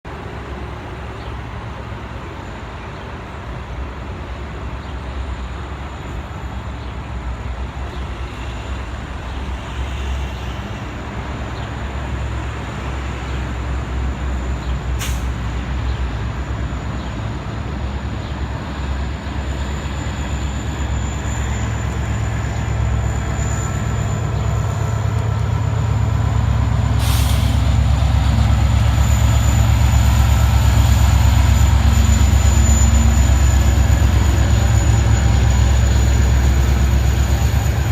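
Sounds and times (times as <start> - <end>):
locomotive engine drone: 0.1 - 37.9.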